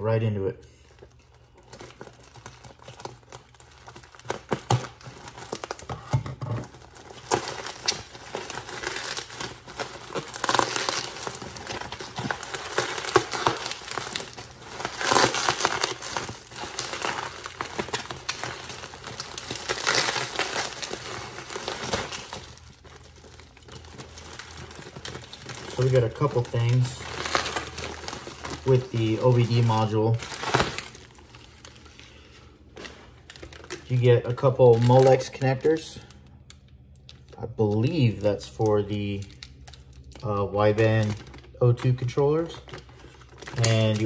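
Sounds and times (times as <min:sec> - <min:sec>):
packaging crinkling and rustling: 0:00.7 - 0:44.0
packaging tearing: 0:00.9 - 0:44.0.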